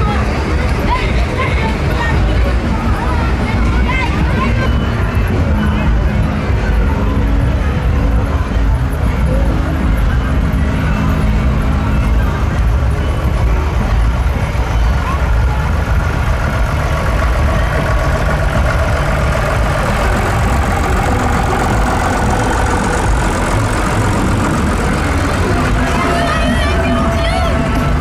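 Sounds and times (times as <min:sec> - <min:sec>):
large vehicle engine idling: 0:00.0 - 0:28.0.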